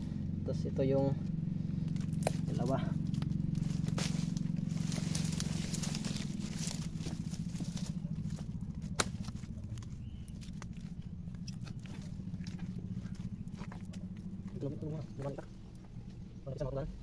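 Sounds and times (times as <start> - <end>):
steady low hum: 0.0 - 17.0
crackles and clicks of digging mud: 1.3 - 16.2.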